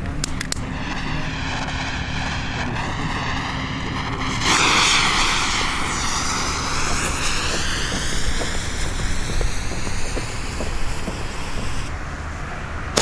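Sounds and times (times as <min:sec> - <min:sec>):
firework fountain spraying sparks: 0:00.0 - 0:12.0
firework hissing: 0:00.0 - 0:12.0.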